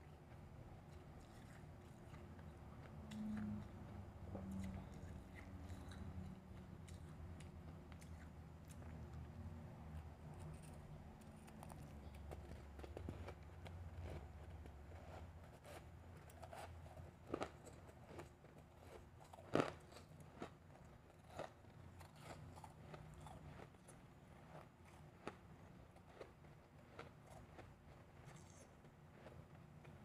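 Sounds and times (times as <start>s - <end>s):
ice being chewed: 0.2s - 30.0s.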